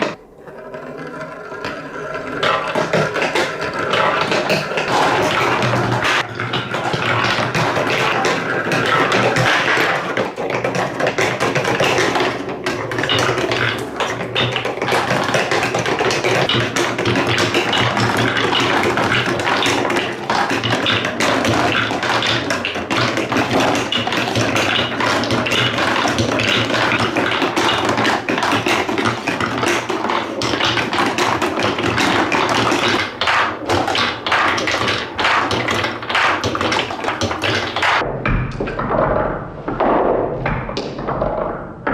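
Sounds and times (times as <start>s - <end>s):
marbles clattering down a track: 0.0s - 38.1s.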